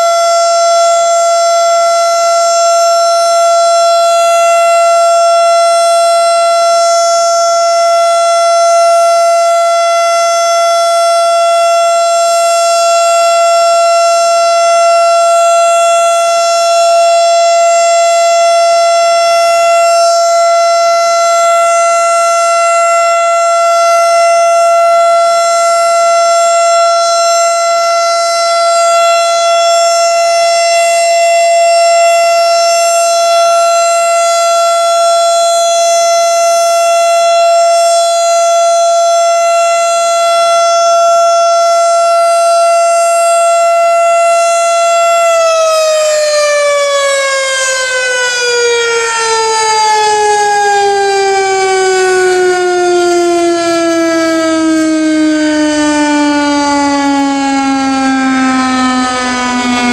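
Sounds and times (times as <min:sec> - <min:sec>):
warning siren alert tone: 0:00.0 - 0:59.9.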